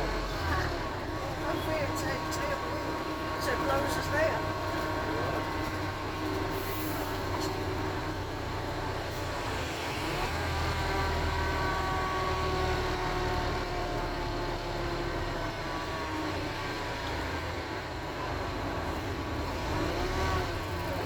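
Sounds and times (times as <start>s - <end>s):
diesel bus engine rumbling: 0.0s - 21.0s.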